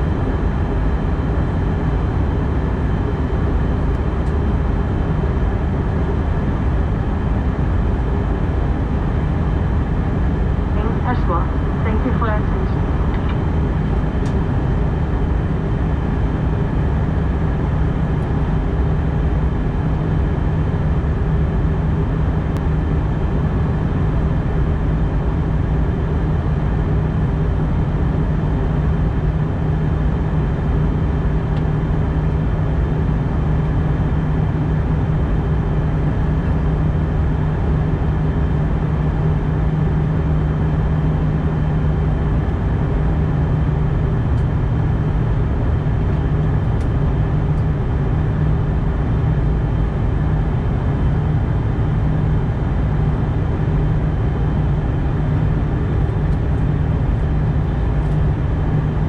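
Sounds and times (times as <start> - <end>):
airplane cabin noise: 0.0 - 59.0
steady low hum: 0.0 - 59.0.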